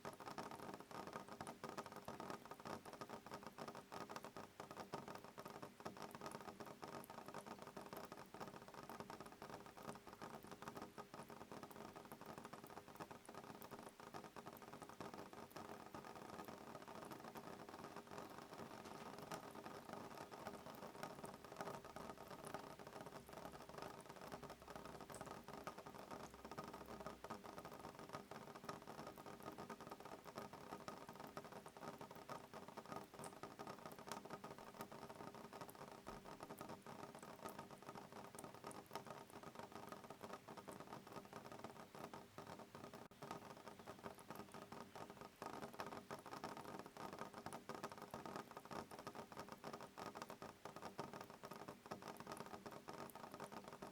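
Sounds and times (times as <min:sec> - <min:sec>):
rain pattering on a window: 0:00.0 - 0:53.9.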